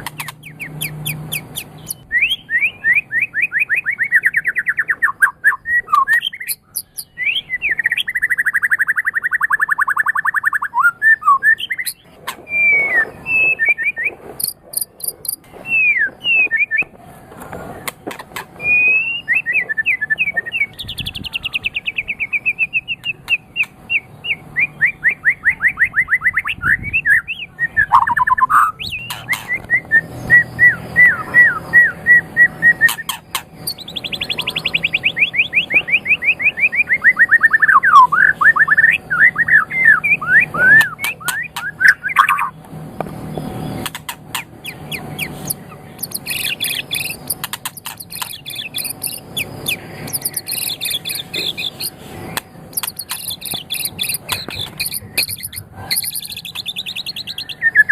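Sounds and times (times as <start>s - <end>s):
songbird singing varied song: 0.0s - 17.0s, 18.6s - 57.9s.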